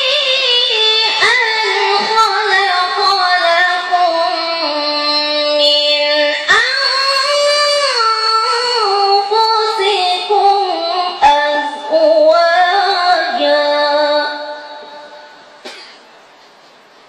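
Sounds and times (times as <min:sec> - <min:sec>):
woman chanting recitation: 0:00.0 - 0:15.3.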